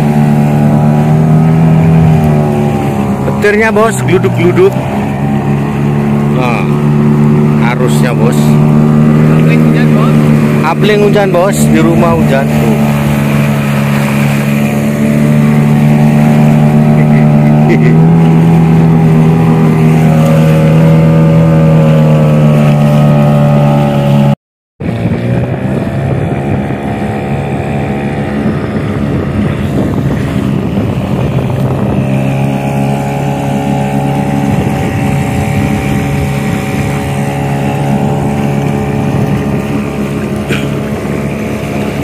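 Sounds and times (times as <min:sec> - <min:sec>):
boat motor running: 0:00.0 - 0:42.0
water noise: 0:00.0 - 0:42.0
wind: 0:00.0 - 0:42.0.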